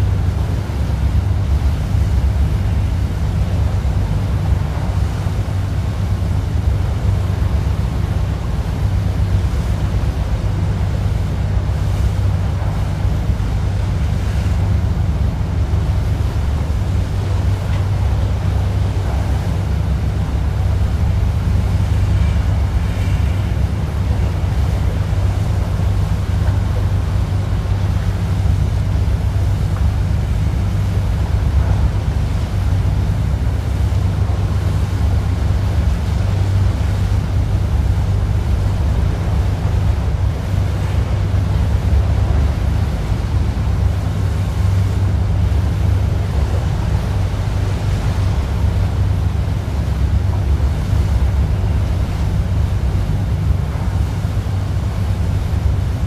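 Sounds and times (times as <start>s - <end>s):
boat engine rumble: 0.0s - 56.0s
water washing past hull: 0.0s - 56.0s.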